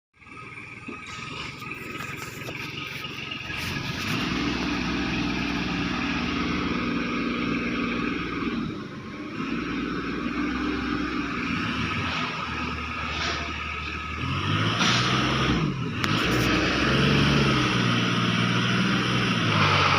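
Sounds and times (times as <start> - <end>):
vehicle engine running: 0.2 - 19.9.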